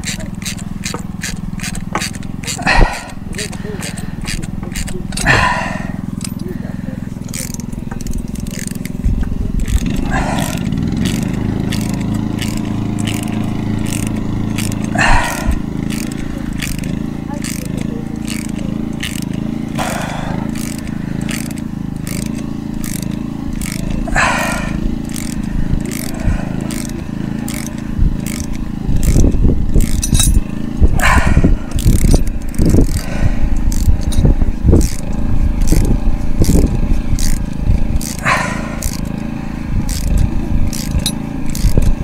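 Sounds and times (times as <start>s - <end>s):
wind buffeting microphone: 0.0s - 19.0s, 23.5s - 42.0s.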